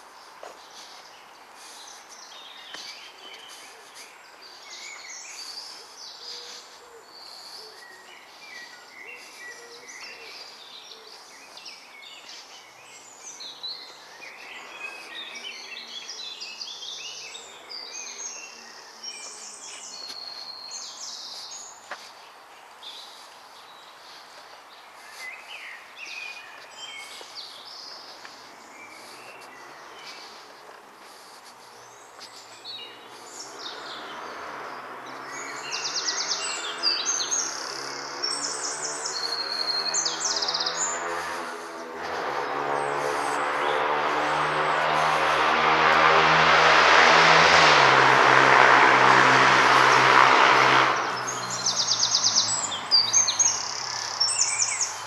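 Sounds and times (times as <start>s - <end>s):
songbirds singing and calling: 0.0s - 46.4s, 48.9s - 55.0s.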